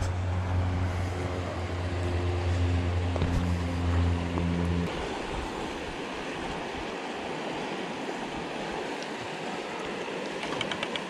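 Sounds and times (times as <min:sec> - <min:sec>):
river rushing through rapids: 0:00.0 - 0:11.0.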